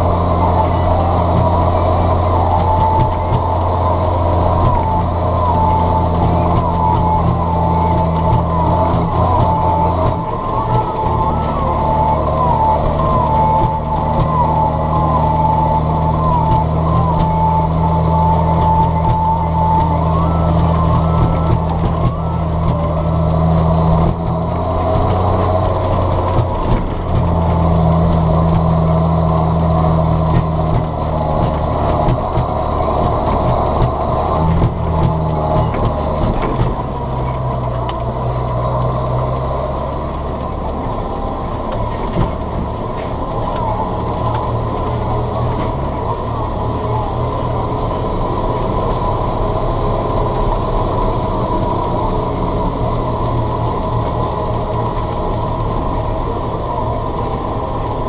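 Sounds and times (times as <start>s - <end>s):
high whistling tone: 0.0s - 58.0s
tractor diesel engine running: 0.0s - 58.0s.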